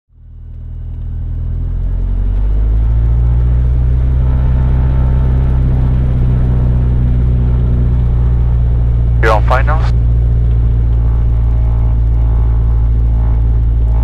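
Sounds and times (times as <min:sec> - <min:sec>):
aircraft engine drone from cabin: 0:00.2 - 0:14.0.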